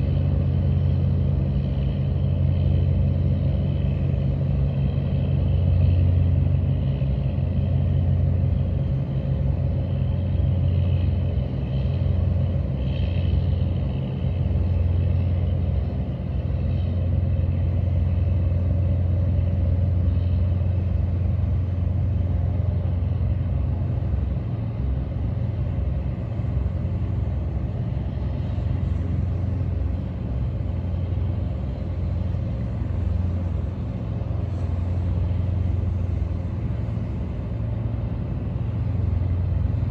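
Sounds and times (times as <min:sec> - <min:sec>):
boat diesel engines rumbling: 0:00.0 - 0:39.9.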